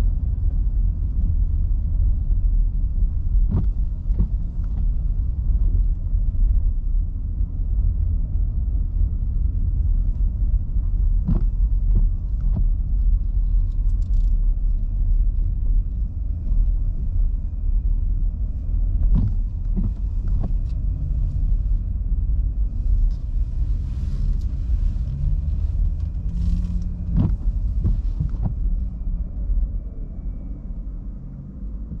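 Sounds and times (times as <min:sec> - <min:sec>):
car tyres on wet road: 0:00.0 - 0:32.0.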